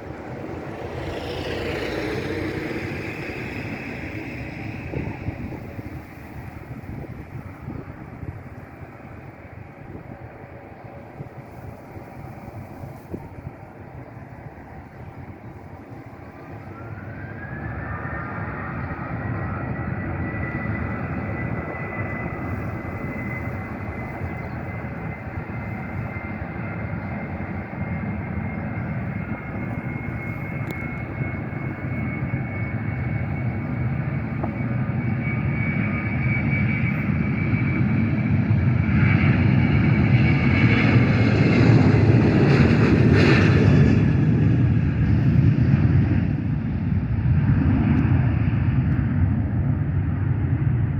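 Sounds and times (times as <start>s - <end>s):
jet engines whining and rumbling: 0.0s - 50.9s.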